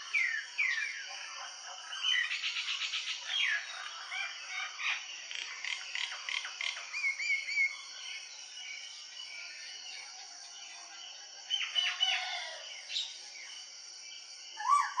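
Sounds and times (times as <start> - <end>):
birds singing and calling: 0.0 - 15.0.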